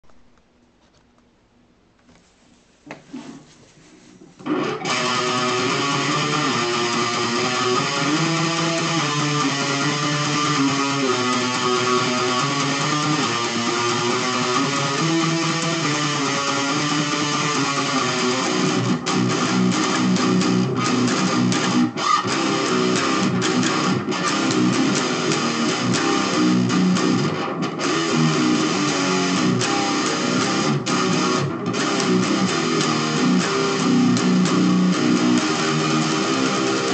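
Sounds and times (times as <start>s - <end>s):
electric guitar riff: 4.4s - 36.9s.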